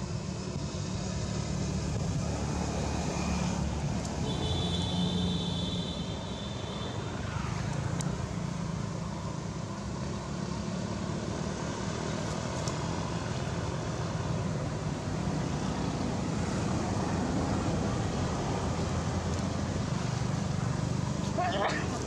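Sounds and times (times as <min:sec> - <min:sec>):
road traffic drone: 0:00.0 - 0:22.0.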